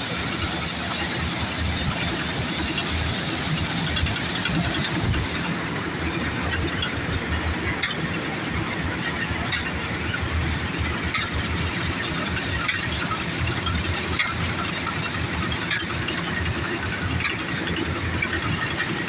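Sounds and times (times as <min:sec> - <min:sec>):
combine harvester engine running: 0:00.0 - 0:19.0.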